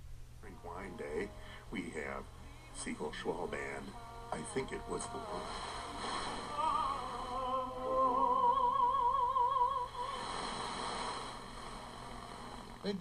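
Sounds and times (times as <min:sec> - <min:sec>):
background hiss: 0:00.0 - 0:13.0
person singing with vibrato: 0:00.4 - 0:12.6.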